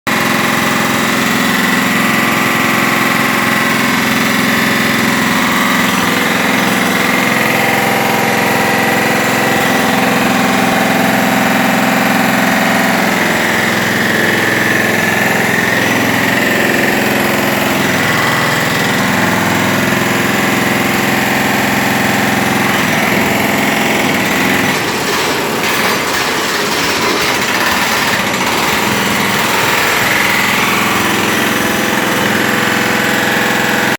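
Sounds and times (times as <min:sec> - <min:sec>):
diesel engine running under load: 0:00.1 - 0:33.9
hydraulic breaker hammering concrete: 0:00.1 - 0:33.9.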